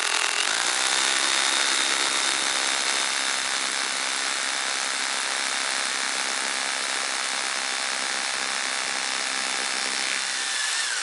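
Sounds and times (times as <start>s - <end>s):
rotary hammer drilling into stone: 0.0s - 11.0s.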